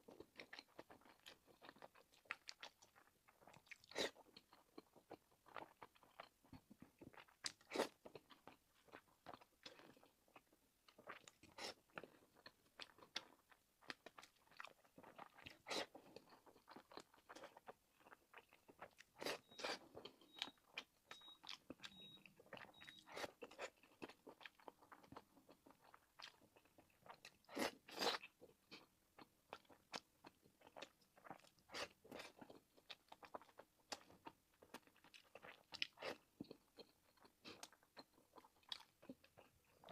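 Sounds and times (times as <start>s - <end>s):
person chewing with wet smacks: 0.0s - 39.9s.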